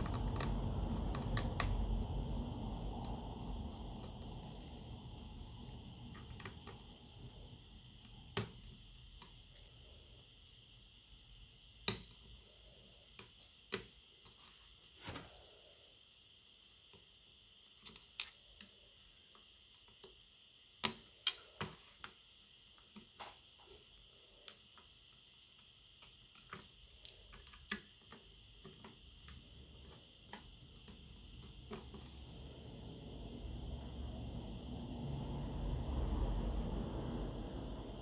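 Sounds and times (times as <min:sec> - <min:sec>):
faint high hum: 0:00.0 - 0:38.0.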